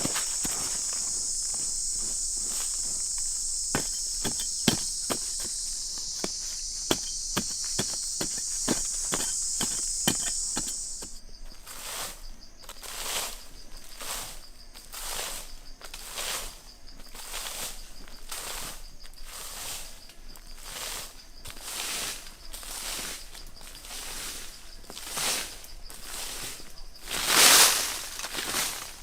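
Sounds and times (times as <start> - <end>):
insect chorus chirring: 0.0 - 29.0.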